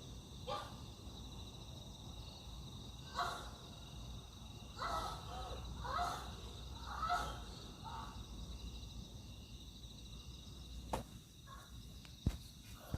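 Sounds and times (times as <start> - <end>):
crickets chirring: 0.0 - 12.9.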